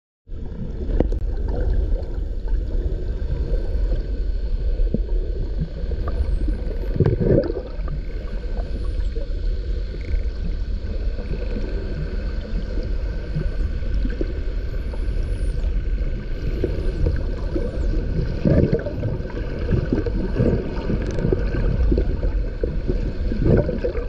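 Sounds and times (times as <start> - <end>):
low water rush: 0.3 - 24.0
underwater rumble: 0.3 - 24.0.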